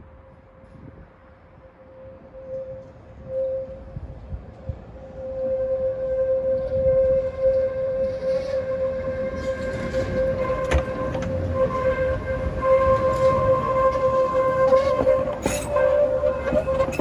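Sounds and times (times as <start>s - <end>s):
tram wheels squealing on rails: 1.6s - 17.0s.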